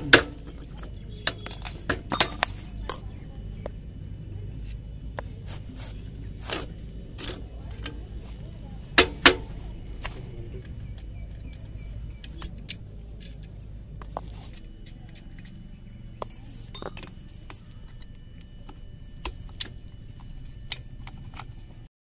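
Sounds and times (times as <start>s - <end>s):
low background hum: 0.0s - 21.9s.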